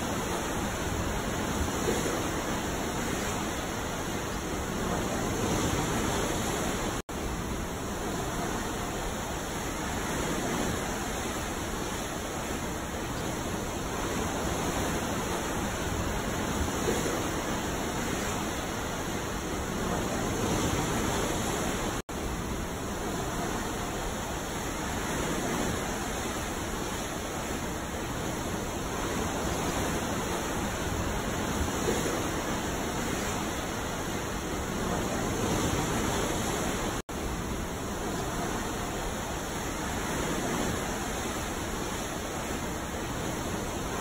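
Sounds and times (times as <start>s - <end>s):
ocean waves washing: 0.0s - 44.0s.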